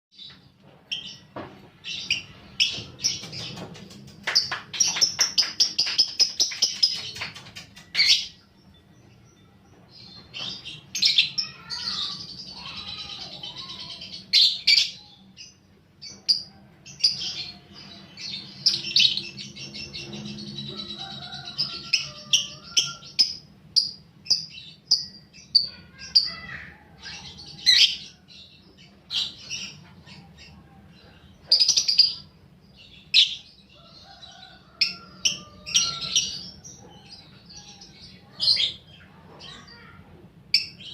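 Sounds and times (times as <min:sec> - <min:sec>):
lovebirds chirping and chattering: 0:00.2 - 0:40.9.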